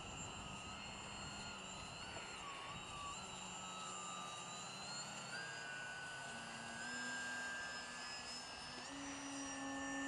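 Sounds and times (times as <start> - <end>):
model plane motor whine: 0.0 - 10.0.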